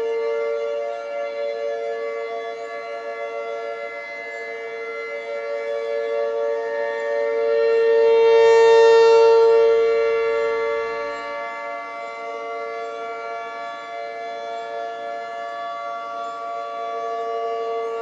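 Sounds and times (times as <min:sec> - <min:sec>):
warning siren steady tone: 0:00.0 - 0:18.0.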